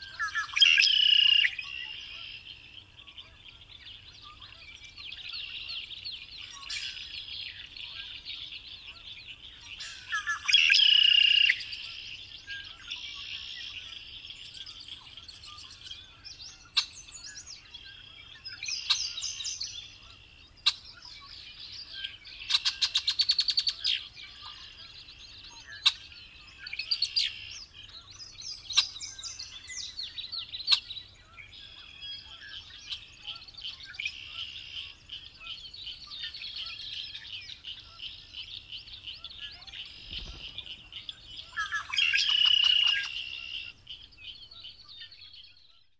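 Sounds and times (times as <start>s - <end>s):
blackbird singing: 0.0s - 45.9s.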